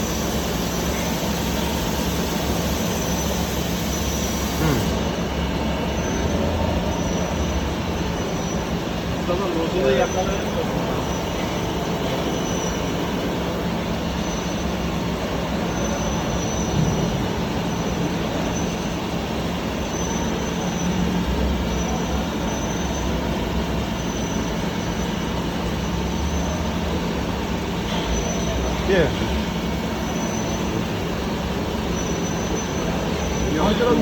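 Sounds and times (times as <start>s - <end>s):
machine hum and hiss: 0.0s - 34.0s.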